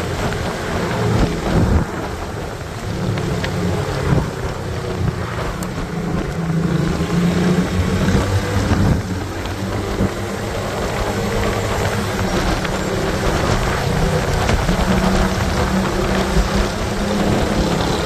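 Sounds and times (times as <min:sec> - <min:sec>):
motorcycle engine humming: 0:00.0 - 0:18.0
wind rushing across microphone: 0:00.0 - 0:18.0.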